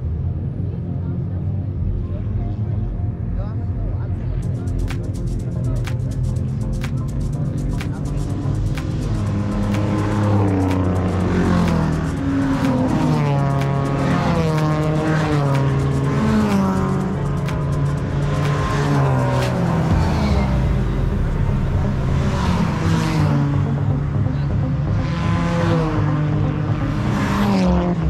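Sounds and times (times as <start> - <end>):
race car engines revving: 0.0 - 28.0.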